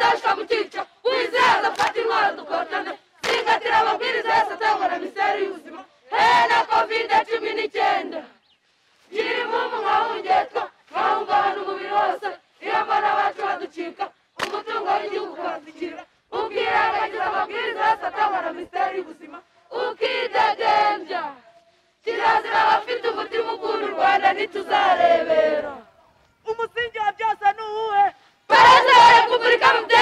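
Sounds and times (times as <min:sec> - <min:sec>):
young people chanting in unison: 0:00.0 - 0:08.4, 0:09.1 - 0:26.0, 0:28.5 - 0:30.0.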